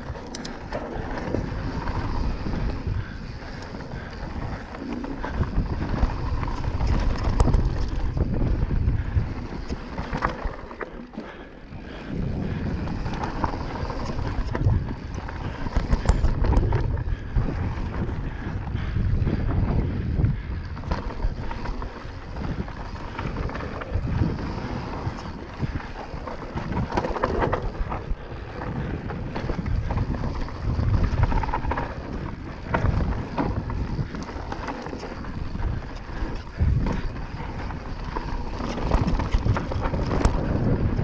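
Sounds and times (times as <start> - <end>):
bike rattling over bumps: 0.0 - 41.0
bike tyres rolling over dirt: 0.0 - 41.0
wind on microphone: 0.0 - 41.0.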